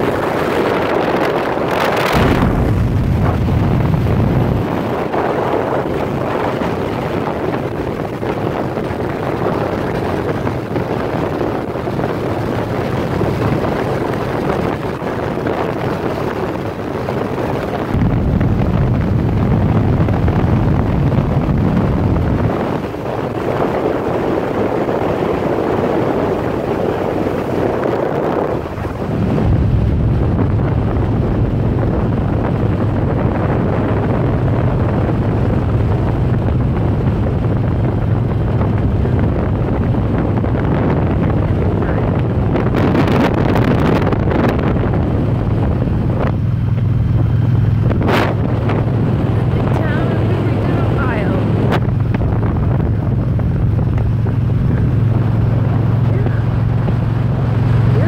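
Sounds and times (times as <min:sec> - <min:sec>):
motorcycle engine: 0:00.0 - 0:58.0
wind rushing over microphone: 0:00.0 - 0:58.0.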